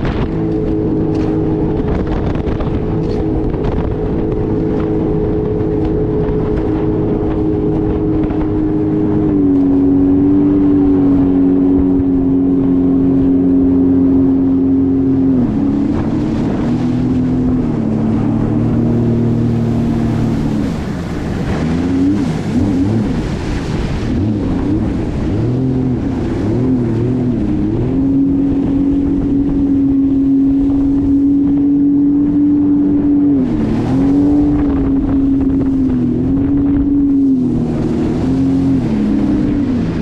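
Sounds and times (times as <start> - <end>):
jet ski engine running: 0.0 - 40.0.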